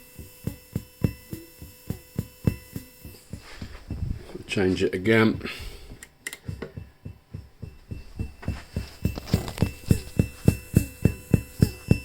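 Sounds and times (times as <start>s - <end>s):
faint high whine: 0.0s - 12.0s
pulsing tick-thump: 0.1s - 4.2s, 6.2s - 12.0s.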